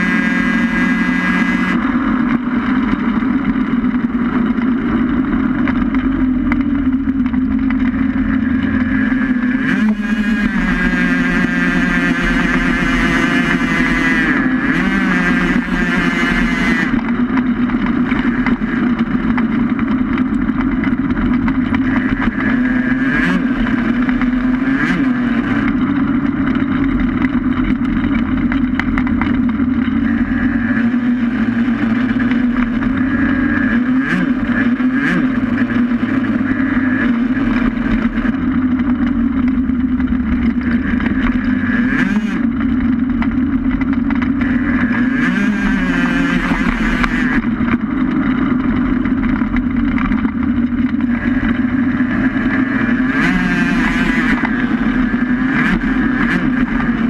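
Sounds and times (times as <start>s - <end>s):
race vehicle engine running hard: 0.0s - 57.0s.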